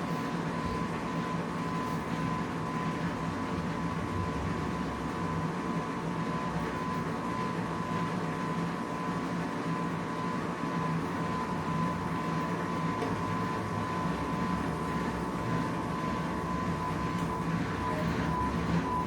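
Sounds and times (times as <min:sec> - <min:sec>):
washing machine running: 0:00.0 - 0:19.0.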